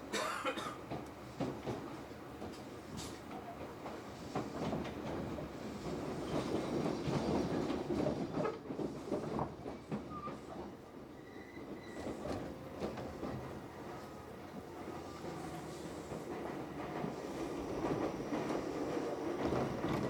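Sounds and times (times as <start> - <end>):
train wheels clattering: 0.1 - 20.0.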